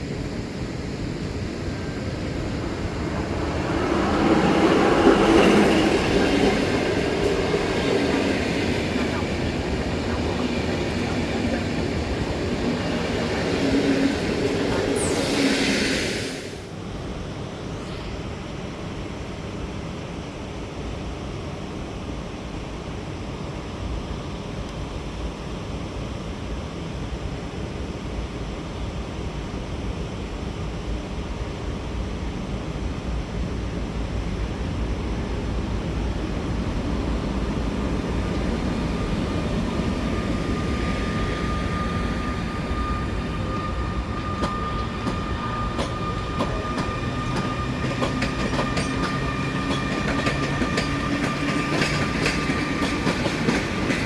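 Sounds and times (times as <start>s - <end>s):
train rumbling: 0.0s - 27.4s, 28.0s - 54.0s.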